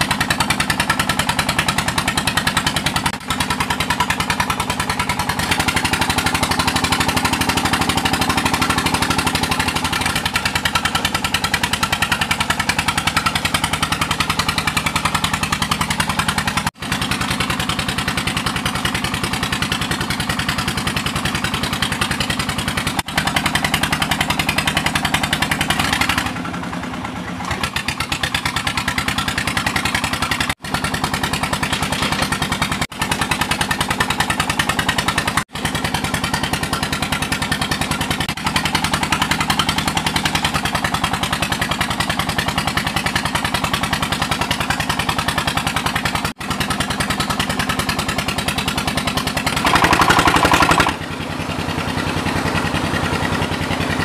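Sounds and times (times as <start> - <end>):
small pump engine running: 0.0 - 54.0.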